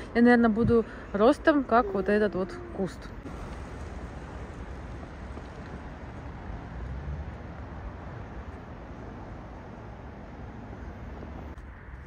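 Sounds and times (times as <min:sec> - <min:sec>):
outdoor low rumble: 0:00.0 - 0:12.0.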